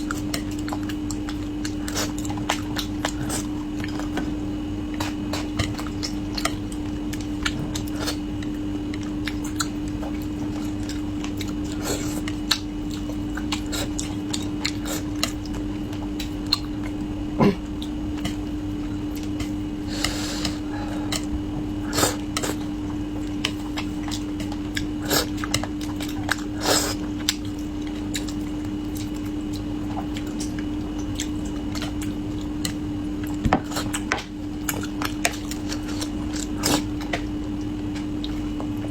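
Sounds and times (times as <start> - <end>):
steady low hum: 0.0 - 38.9
person chewing: 4.9 - 38.7.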